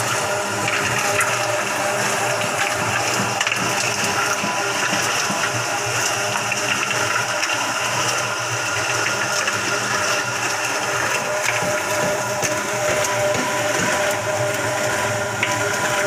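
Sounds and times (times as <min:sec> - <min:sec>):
concrete churning in drum: 0:00.0 - 0:16.0
concrete mixer motor humming: 0:00.0 - 0:16.0.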